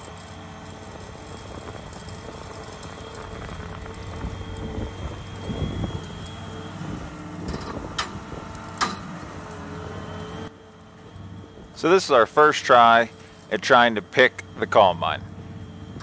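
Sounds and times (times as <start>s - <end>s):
excavator diesel engine straining: 0.0s - 16.0s.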